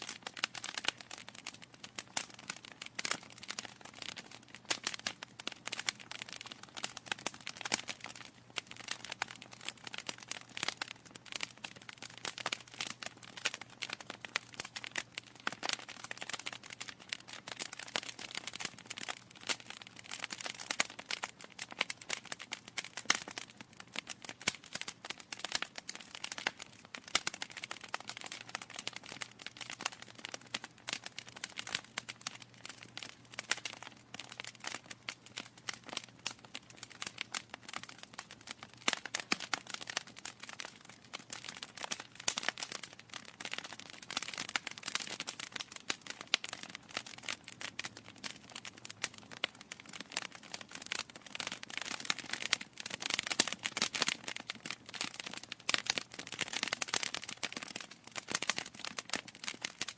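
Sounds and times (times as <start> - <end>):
logs crackling in a fireplace: 0.0 - 59.9.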